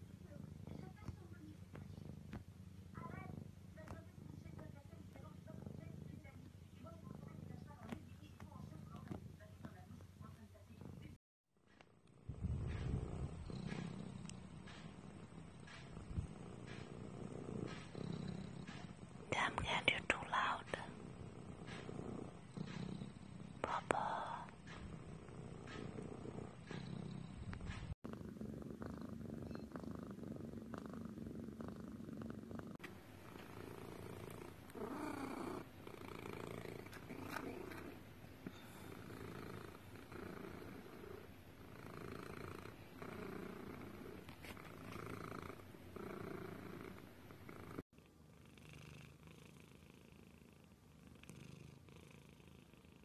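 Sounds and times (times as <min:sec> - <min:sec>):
cats purring: 0:00.0 - 0:53.0.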